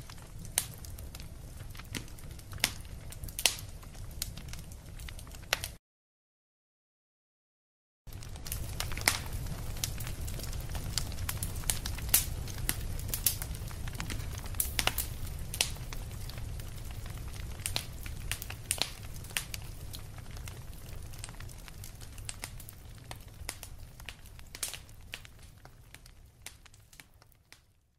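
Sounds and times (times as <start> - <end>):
wood fire crackling: 0.0 - 5.8, 8.1 - 27.9.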